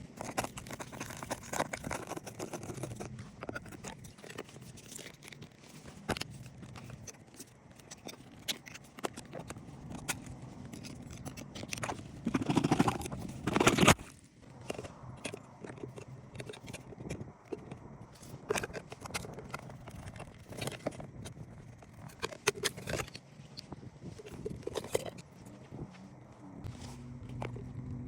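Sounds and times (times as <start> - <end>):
scattered clicks and scrapes: 0.0 - 25.7.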